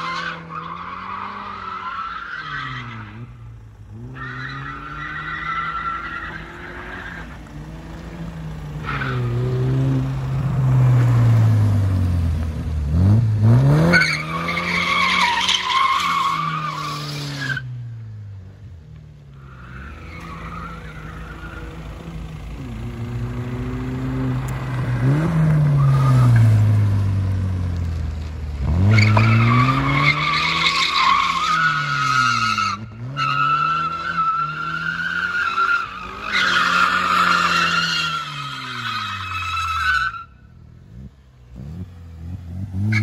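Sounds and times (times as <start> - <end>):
tyres squealing and skidding: 0.0 - 11.6, 13.6 - 17.8, 19.2 - 26.8, 28.6 - 40.6, 42.8 - 43.0
car engine revving: 2.7 - 15.4, 16.4 - 39.6, 40.3 - 43.0.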